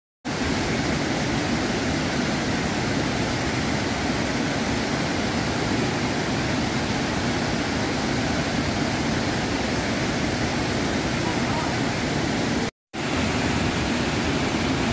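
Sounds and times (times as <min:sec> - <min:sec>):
waterfall rushing: 0:00.3 - 0:14.9.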